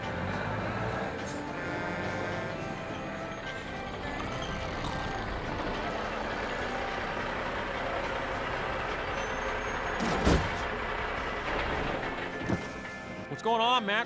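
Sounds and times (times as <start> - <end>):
truck engine running: 0.0 - 13.3.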